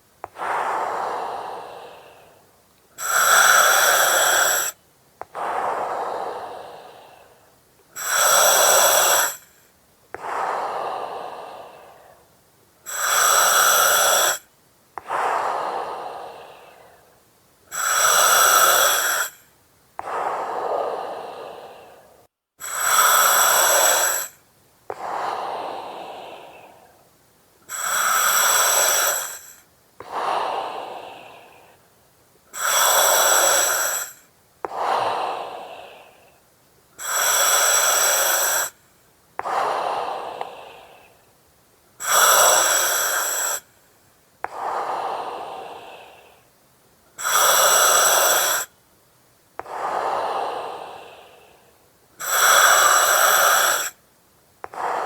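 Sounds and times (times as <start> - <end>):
breathing through oxygen mask: 0.0 - 17.1, 17.7 - 27.0, 27.7 - 31.8, 32.5 - 36.4, 37.0 - 38.8, 39.4 - 41.3, 42.0 - 43.8, 44.4 - 46.5, 47.2 - 48.7, 49.6 - 54.0, 54.6 - 55.0.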